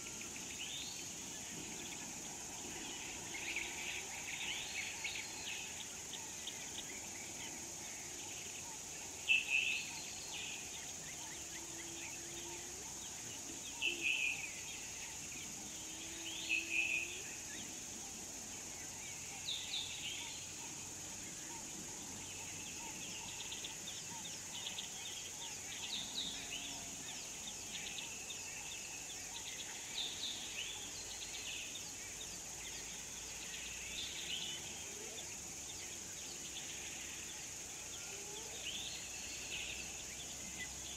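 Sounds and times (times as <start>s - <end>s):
high insect hum: 0.0s - 40.9s.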